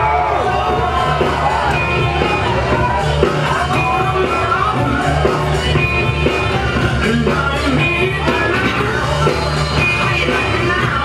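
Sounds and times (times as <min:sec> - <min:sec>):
loud music with pulsing bass beat: 0:00.0 - 0:11.0.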